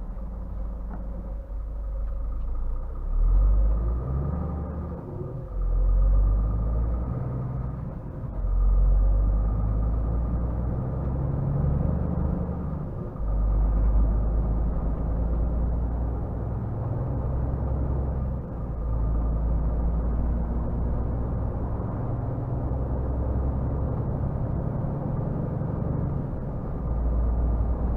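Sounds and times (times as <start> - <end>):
diesel truck engine rumbling: 0.0 - 27.9.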